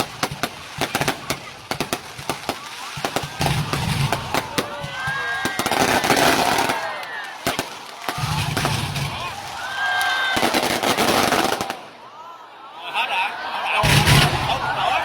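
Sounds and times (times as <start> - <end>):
fireworks bangs and crackles: 0.0 - 12.0, 13.8 - 15.0
fireworks whistling: 0.0 - 12.0, 13.8 - 15.0.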